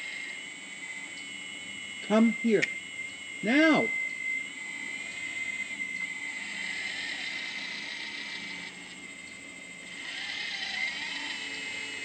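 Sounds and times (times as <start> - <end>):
toy excavator motor whine: 0.0 - 12.0.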